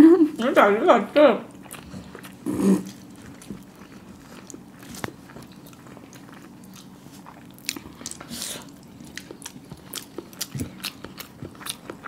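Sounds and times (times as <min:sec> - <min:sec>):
chewing and biting eggs: 0:01.5 - 0:12.0.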